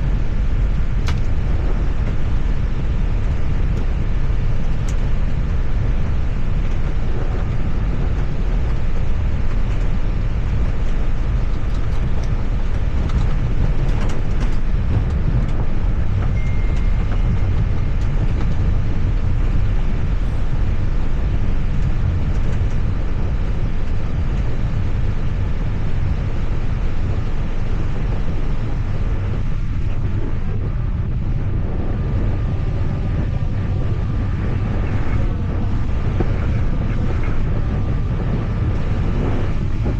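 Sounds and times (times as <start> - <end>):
airliner cockpit engine rumble: 0.0 - 39.9.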